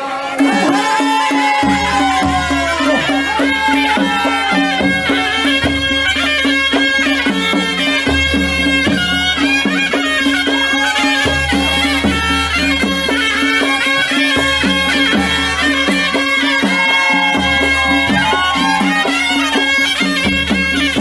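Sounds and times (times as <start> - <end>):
folk melody over a drone: 0.0 - 21.0.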